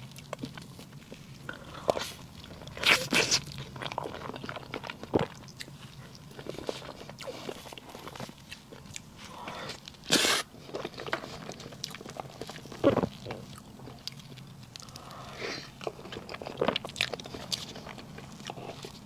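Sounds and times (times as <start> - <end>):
chewing with wet mouth clicks: 0.0 - 19.0.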